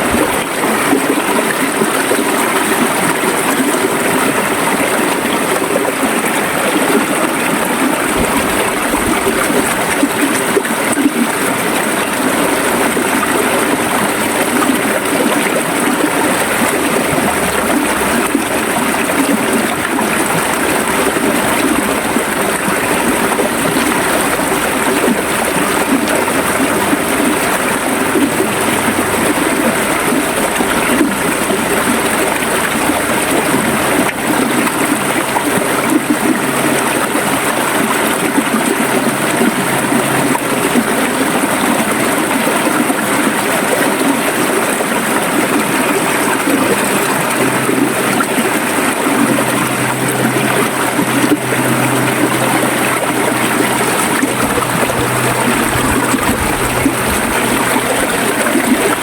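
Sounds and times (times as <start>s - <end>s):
river water flowing and gurgling: 0.0s - 59.0s.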